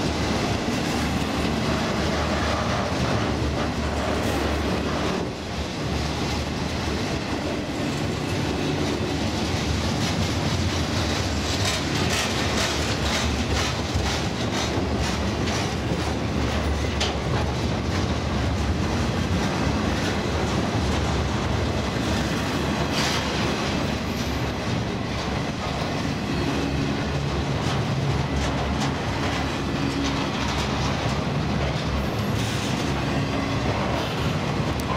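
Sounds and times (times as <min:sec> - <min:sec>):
freight train cars rumbling past: 0:00.0 - 0:34.9
wheels clicking over rail joints: 0:00.0 - 0:34.9.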